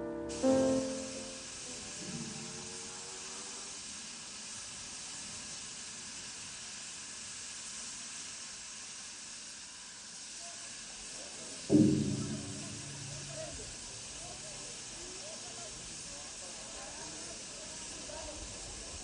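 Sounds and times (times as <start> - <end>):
locomotive hissing steam: 0.0 - 19.0.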